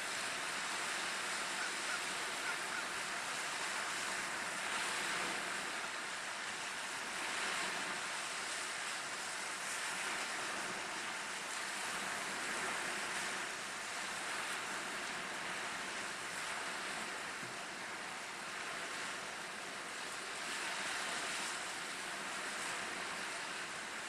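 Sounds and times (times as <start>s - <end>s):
small waves breaking on beach: 0.0s - 24.0s
wind: 0.0s - 24.0s.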